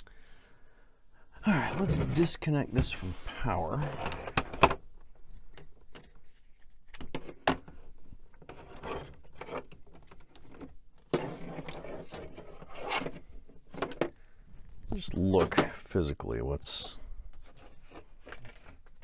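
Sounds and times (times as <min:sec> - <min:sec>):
rubbing and scraping of parts: 0:01.6 - 0:15.8, 0:17.3 - 0:19.0.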